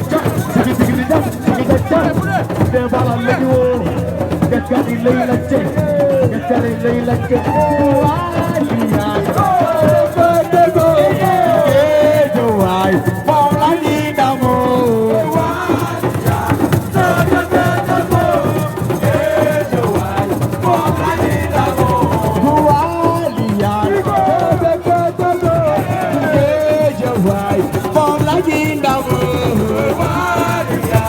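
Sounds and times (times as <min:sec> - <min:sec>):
percussion with rattle: 0:00.0 - 0:31.0
person singing: 0:03.0 - 0:31.0.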